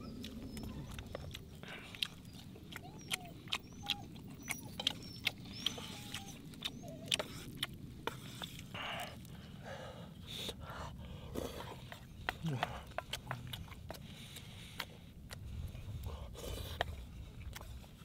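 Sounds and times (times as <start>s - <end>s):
person chewing noodles: 0.0s - 18.0s
wet mouth clicks and smacks: 0.2s - 9.3s, 11.4s - 17.9s.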